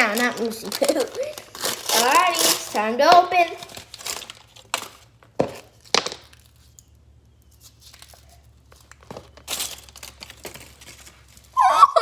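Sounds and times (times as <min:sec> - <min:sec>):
packaging being torn and crinkled: 0:00.0 - 0:02.9, 0:03.5 - 0:06.8, 0:07.6 - 0:11.6.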